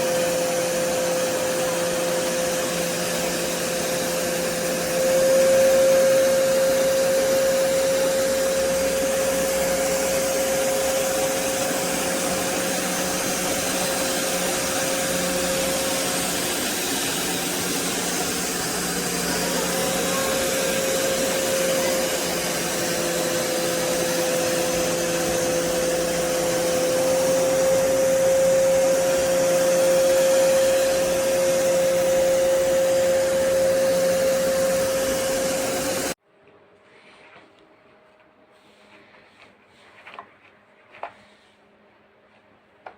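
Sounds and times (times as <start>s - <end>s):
carpet cleaner motor whine: 0.0s - 36.2s.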